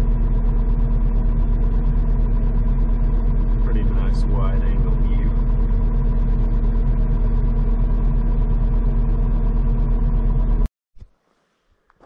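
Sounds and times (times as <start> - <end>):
diesel engine running: 0.0 - 10.7.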